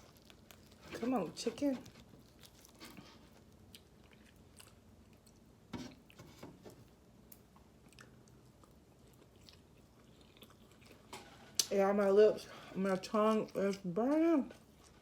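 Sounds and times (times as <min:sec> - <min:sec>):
chewing crunchy food: 0:00.0 - 0:06.3, 0:07.3 - 0:11.7, 0:12.4 - 0:15.0.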